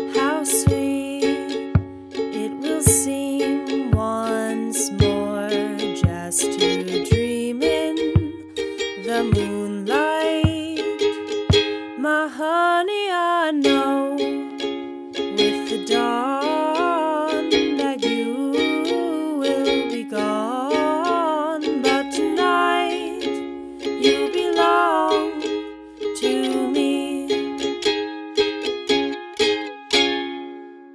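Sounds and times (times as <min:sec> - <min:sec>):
plucked-string tune: 0:00.0 - 0:30.9.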